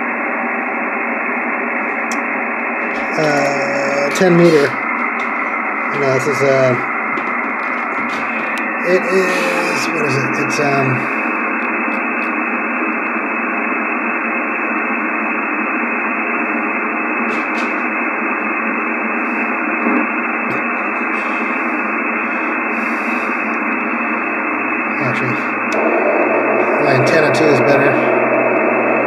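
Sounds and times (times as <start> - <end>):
radio band noise hiss: 0.0 - 29.0.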